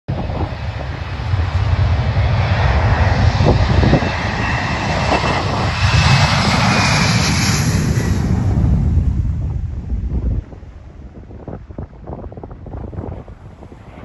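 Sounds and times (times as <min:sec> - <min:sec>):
jet engines at takeoff: 0:00.1 - 0:14.0.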